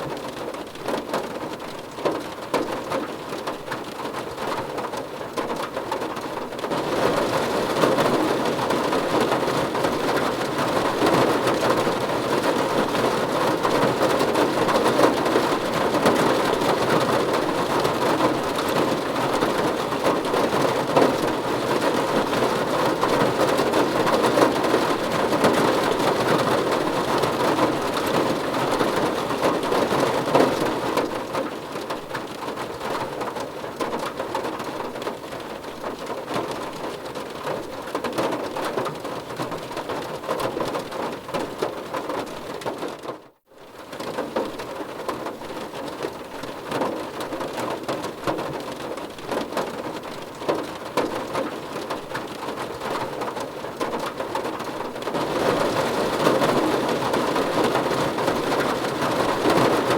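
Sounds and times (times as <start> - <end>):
rain pattering on a car: 0.0 - 59.9.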